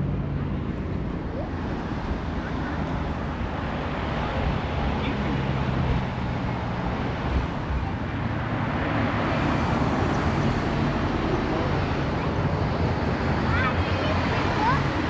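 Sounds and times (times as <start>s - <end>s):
vehicle engine hum with road noise: 0.0s - 15.0s.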